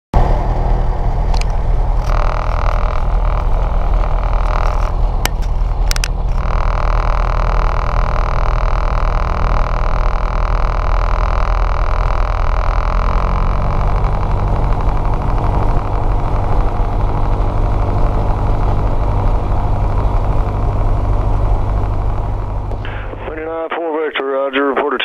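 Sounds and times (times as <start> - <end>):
airplane engine drone: 0.2 - 25.0
steady high whine: 0.2 - 25.0
sharp clicks: 1.3 - 23.4.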